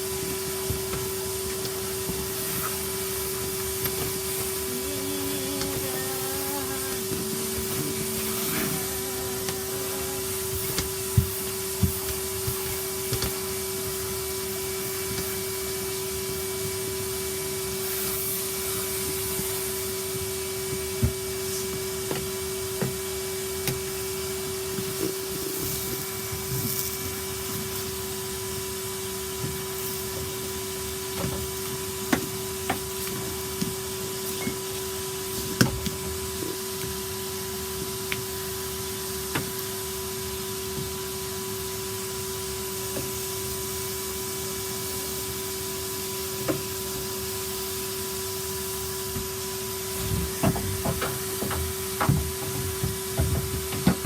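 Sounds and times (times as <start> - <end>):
vacuum cleaner humming: 0.0 - 54.0.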